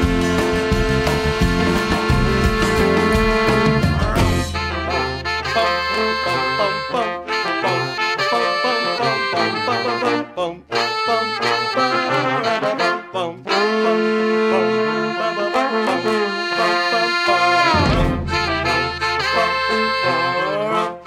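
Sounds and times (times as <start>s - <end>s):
brass and saxophone music: 0.0s - 21.0s.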